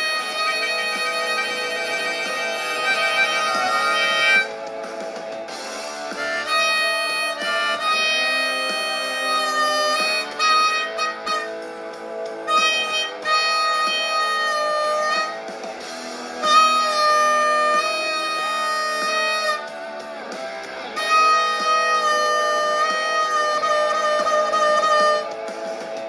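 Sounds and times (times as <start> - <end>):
blues harmonica: 0.0 - 26.0.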